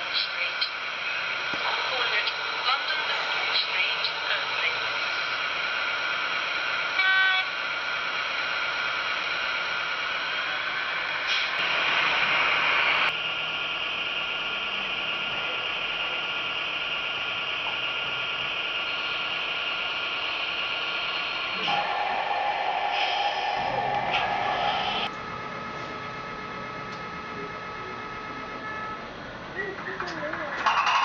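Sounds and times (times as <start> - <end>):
diesel engine sound from speaker: 0.0 - 31.0.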